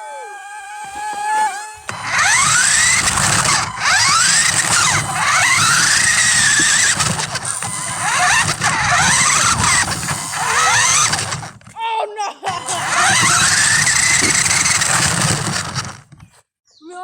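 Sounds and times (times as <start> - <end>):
electric motor whining: 0.0 - 11.8, 12.5 - 16.3.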